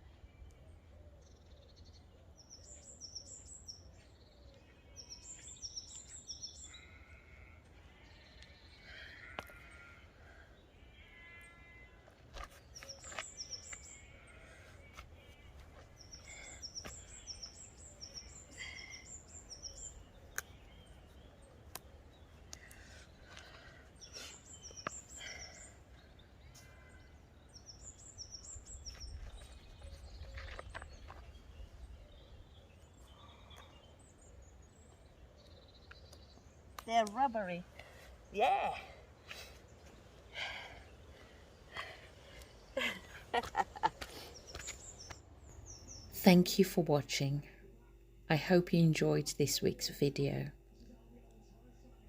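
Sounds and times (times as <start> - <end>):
songbirds singing: 0.0 - 52.0.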